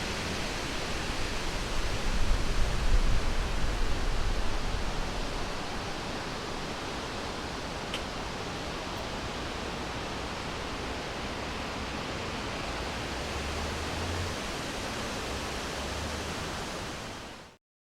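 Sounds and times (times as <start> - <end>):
wind blowing through forest: 0.0 - 17.6.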